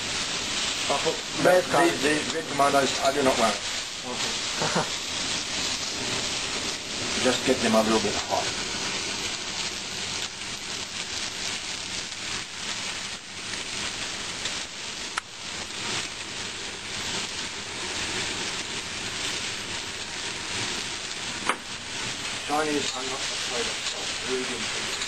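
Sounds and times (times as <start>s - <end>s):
tomatoes sizzling in a wok: 0.0s - 25.0s.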